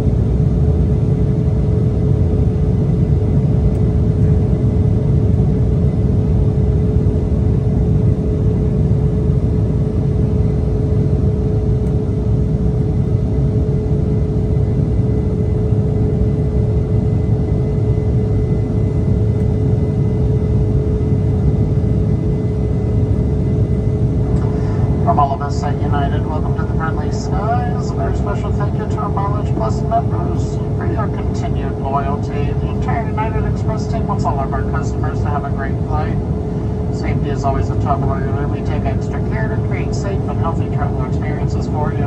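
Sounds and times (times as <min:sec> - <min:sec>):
constant hum: 0:00.0 - 0:42.0
jet cabin rumble: 0:00.0 - 0:42.0.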